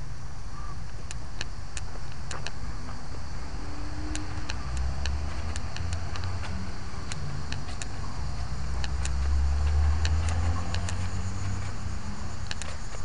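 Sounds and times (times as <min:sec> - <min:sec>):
insects chirping: 0:00.0 - 0:13.0
steady low rumble: 0:00.0 - 0:13.0.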